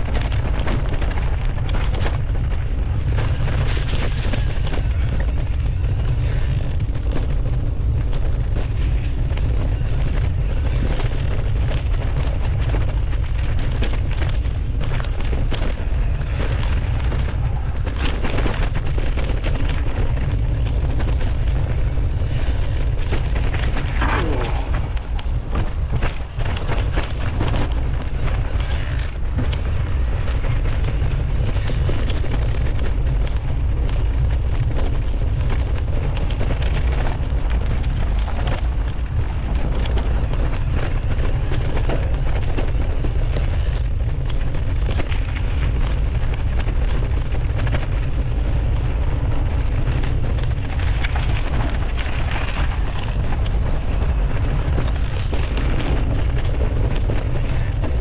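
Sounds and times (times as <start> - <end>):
bike rattles and knocks: 0.0 - 58.0
bike tyre noise on dirt: 0.0 - 58.0
wind buffeting microphone: 0.0 - 58.0.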